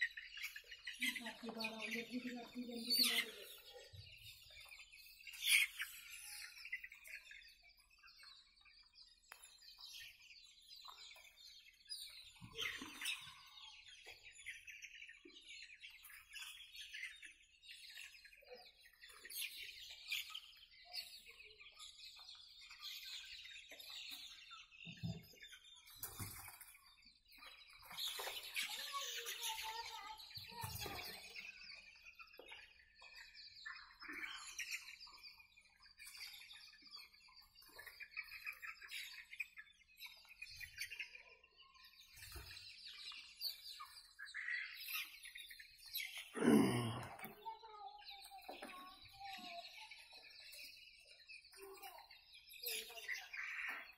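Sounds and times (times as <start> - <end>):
chicks peeping and chirping: 0.0 - 53.9.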